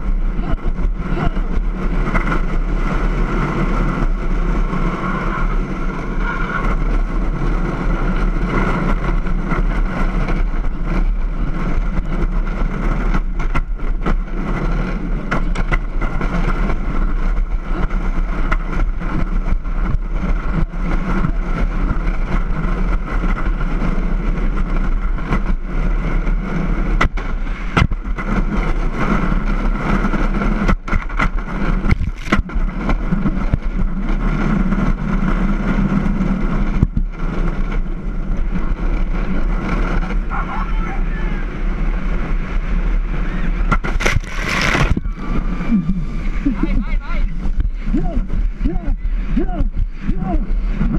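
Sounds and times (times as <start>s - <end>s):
wooden wheels rolling on asphalt: 0.0s - 50.9s.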